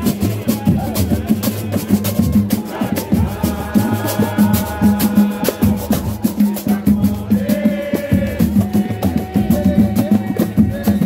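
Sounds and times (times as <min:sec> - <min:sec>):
fast samba rhythm on drums: 0:00.0 - 0:11.0.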